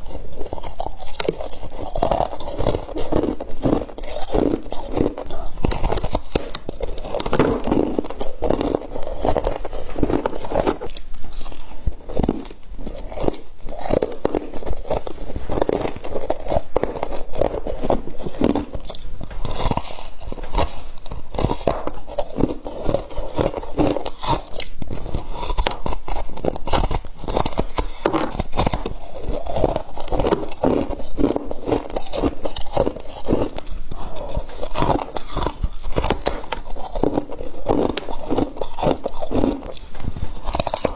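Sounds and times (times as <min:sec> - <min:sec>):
frost being chewed: 0:00.0 - 0:40.9.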